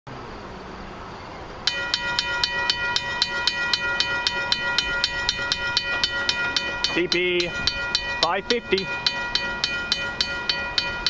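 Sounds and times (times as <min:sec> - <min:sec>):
railway crossing bell ringing: 0:01.6 - 0:11.0.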